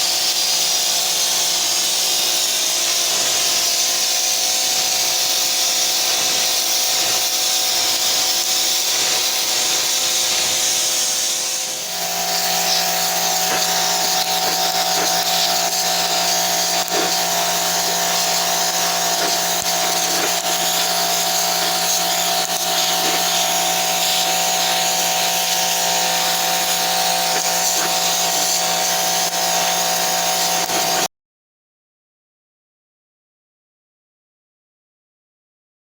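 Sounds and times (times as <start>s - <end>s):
motor whine: 0.0s - 31.1s
pressure washer hissing spray: 0.0s - 31.1s.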